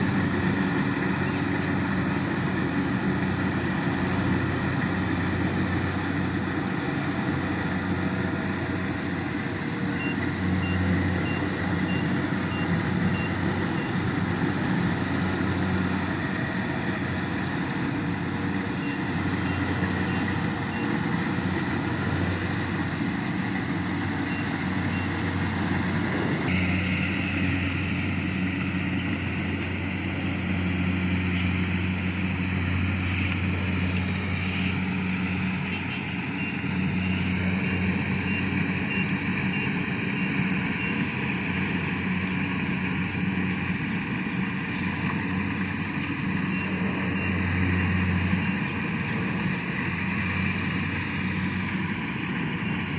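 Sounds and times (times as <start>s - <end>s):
combine harvester engine running: 0.0s - 52.9s.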